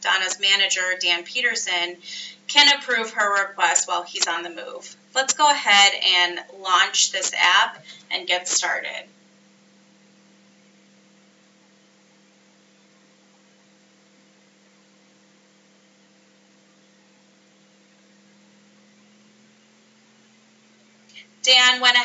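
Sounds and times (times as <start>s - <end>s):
faint electrical hum: 0.0s - 22.0s
low hiss: 0.0s - 22.0s.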